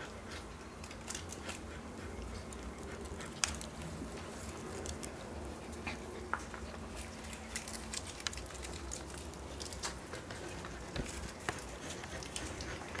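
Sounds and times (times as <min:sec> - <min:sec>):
puppies scuffling on concrete: 0:00.0 - 0:13.0.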